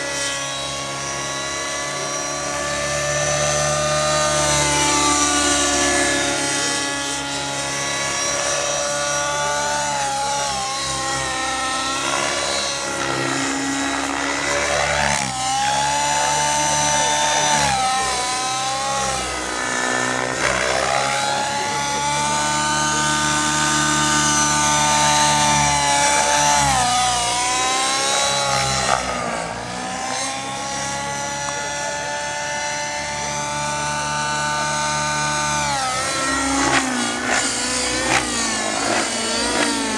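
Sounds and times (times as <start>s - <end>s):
model helicopter engine and rotor whine: 0.0s - 39.9s.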